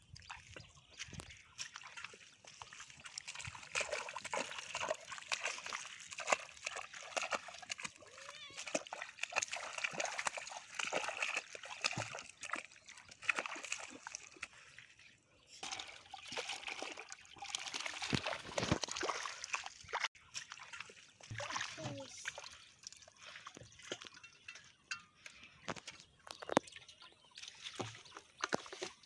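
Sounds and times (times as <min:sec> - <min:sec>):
water drips and trickles: 0:00.0 - 0:29.0
hands splashing in muddy water: 0:00.2 - 0:15.0, 0:15.6 - 0:24.2, 0:26.8 - 0:29.0.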